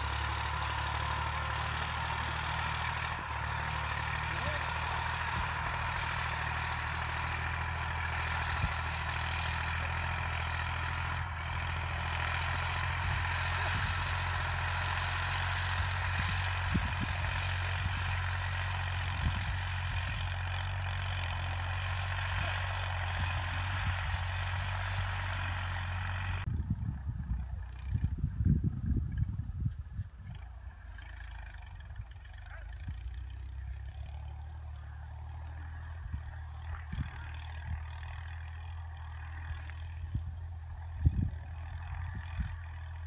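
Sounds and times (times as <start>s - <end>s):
low mechanical drone: 0.0s - 43.0s.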